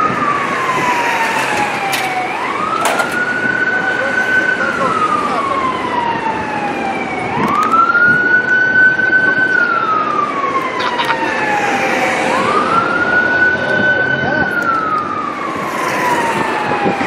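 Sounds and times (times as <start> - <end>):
emergency vehicle siren wailing: 0.0 - 17.0
road noise: 0.0 - 17.0.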